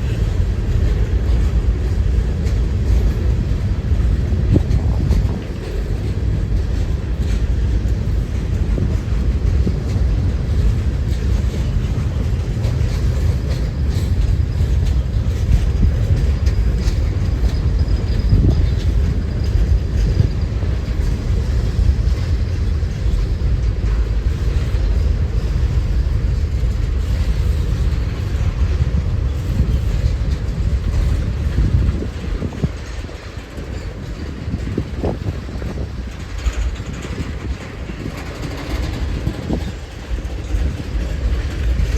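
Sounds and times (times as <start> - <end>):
train running past: 0.0 - 41.9
wind buffeting microphone: 0.0 - 41.9.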